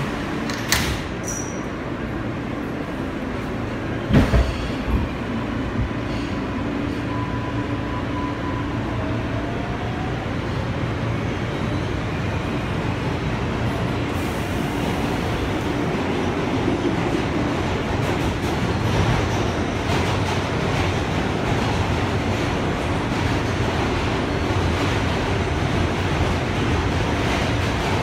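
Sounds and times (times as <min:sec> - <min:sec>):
subway car rumble: 0:00.0 - 0:28.0.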